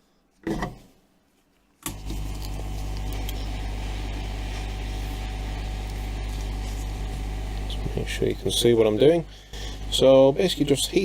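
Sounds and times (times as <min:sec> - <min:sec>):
air pump humming: 0:01.9 - 0:11.0.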